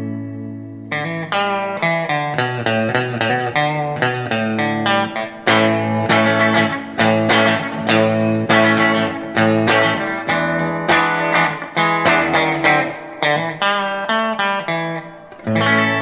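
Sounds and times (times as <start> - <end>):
clean electric guitar chords strummed: 0.0 - 16.0.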